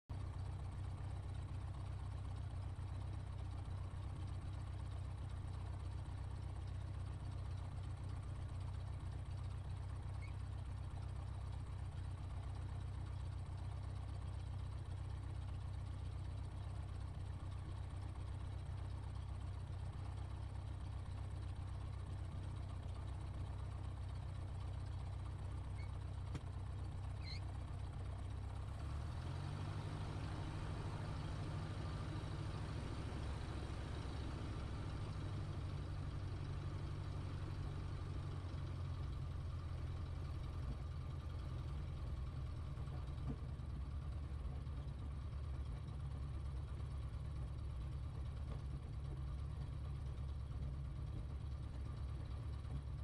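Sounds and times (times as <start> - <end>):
aircraft piston engine idling: 0.2 - 28.8, 35.0 - 53.0.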